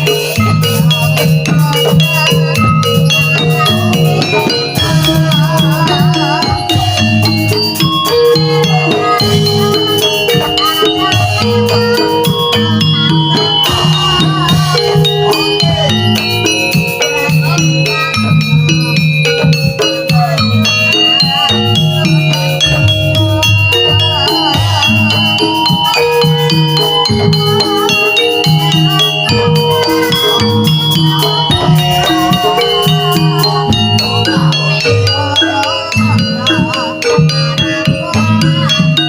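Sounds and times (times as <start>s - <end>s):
gamelan music: 0.0s - 39.0s.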